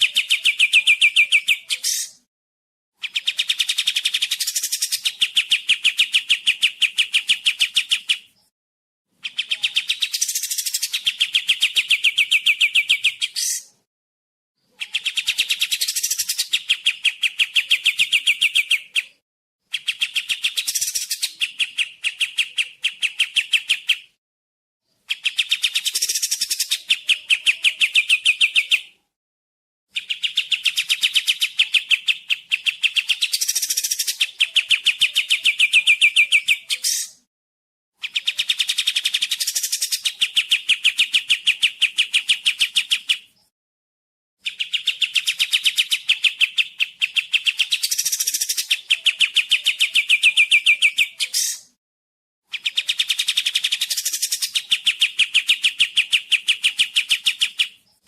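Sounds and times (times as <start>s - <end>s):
bird singing fast trills: 0.0s - 2.3s, 3.0s - 8.5s, 9.2s - 13.8s, 14.6s - 24.2s, 24.9s - 29.0s, 29.9s - 37.2s, 38.0s - 43.5s, 44.4s - 51.8s, 52.5s - 58.0s.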